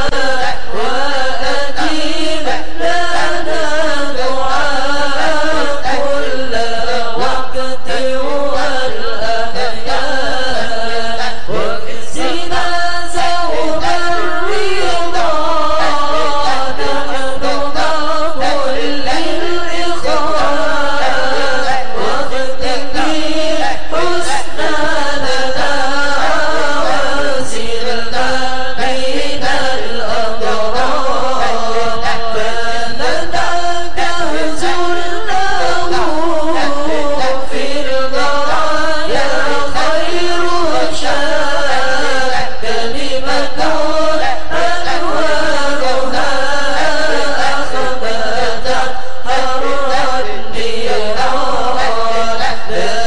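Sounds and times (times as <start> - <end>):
congregation chanting a hymn: 0.0 - 53.0.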